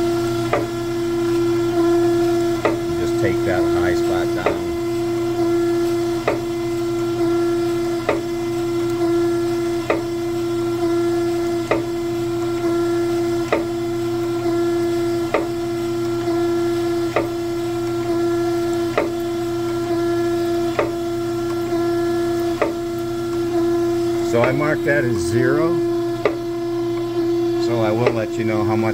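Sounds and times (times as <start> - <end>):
surface grinder whining: 0.0 - 28.9.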